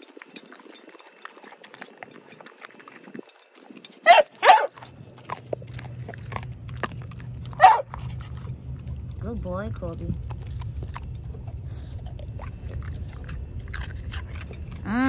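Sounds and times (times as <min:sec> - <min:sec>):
dog chewing raw chicken: 0:00.0 - 0:15.0.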